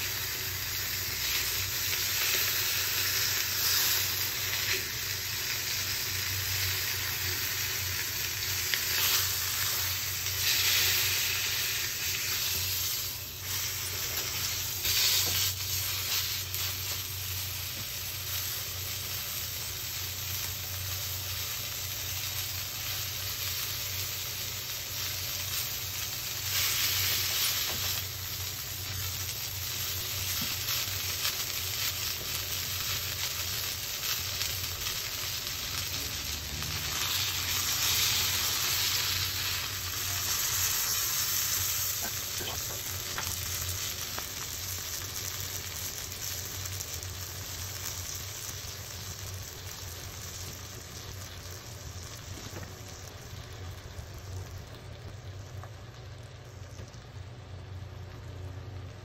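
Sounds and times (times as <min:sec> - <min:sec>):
chicken sizzling in oil: 0:00.0 - 0:59.0.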